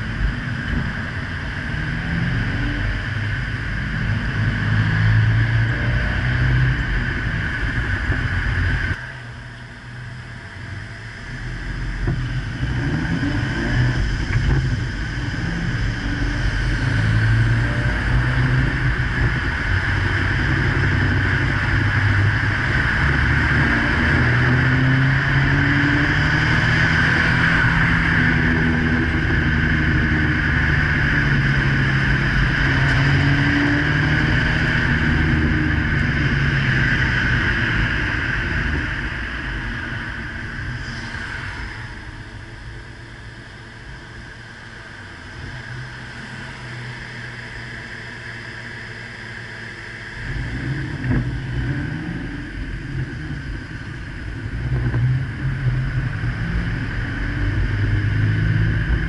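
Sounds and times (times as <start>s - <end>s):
wind noise: 0.0s - 9.1s, 10.4s - 44.0s, 50.2s - 59.0s
car engines revving: 0.0s - 59.0s
road noise: 0.0s - 59.0s.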